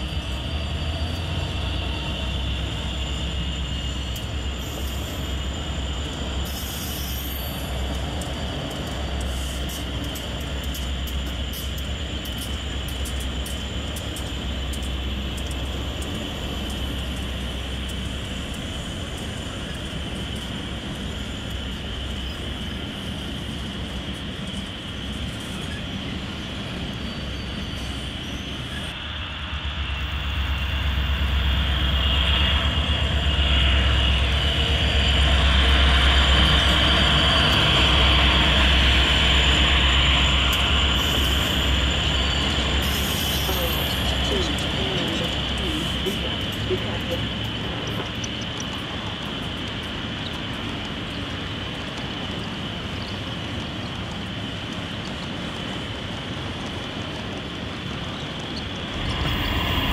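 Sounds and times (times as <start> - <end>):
model train running: 0.0 - 59.9.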